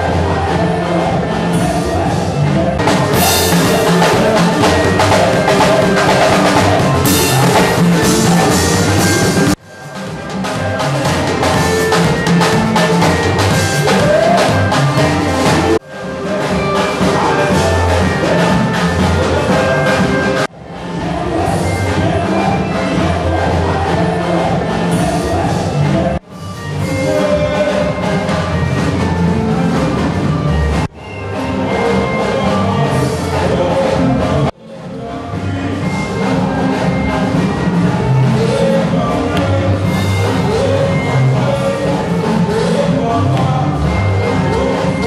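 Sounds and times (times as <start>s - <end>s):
praise band music: 0.0s - 45.0s.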